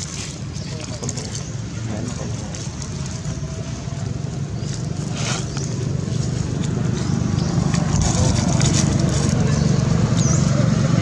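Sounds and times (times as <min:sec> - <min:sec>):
dry leaves rustling: 0:00.0 - 0:11.0.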